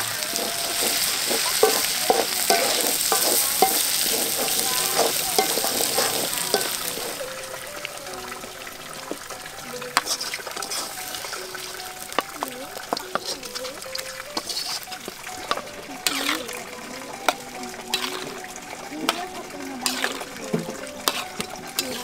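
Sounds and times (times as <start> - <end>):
metal spatula scraping a pan: 0.0 - 7.3, 9.1 - 22.0
spice paste sizzling in a wok: 0.0 - 22.0.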